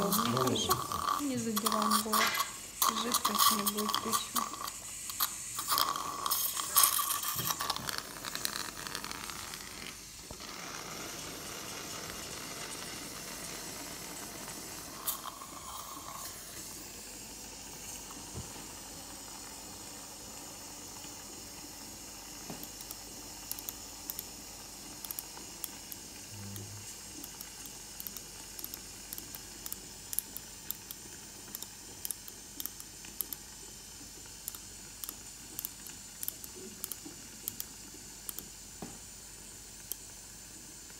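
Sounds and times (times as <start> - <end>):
dental suction hissing: 0.0 - 18.2, 19.1 - 38.6.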